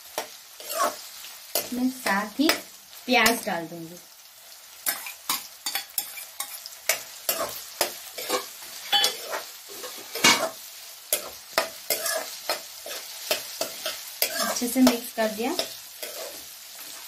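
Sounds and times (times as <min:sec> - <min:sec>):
oil sizzling: 0:00.0 - 0:17.0
spoon scraping pan: 0:00.1 - 0:01.8, 0:04.8 - 0:17.0.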